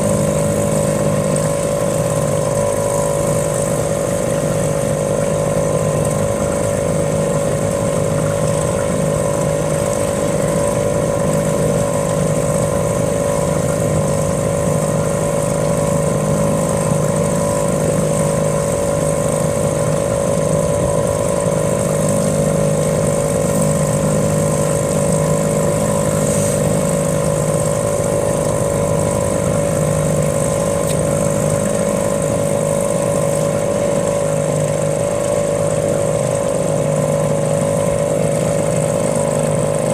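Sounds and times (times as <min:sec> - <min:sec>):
small boat motor droning: 0:00.0 - 0:39.9.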